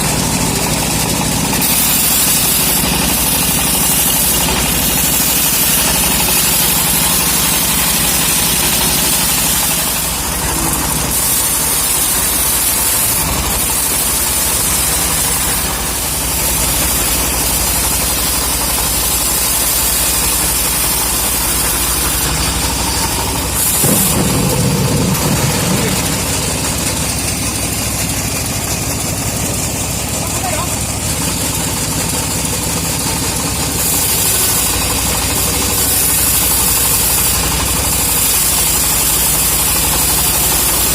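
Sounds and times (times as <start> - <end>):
saw cutting timber hiss: 0.0 - 40.9
saw engine running: 0.0 - 40.9.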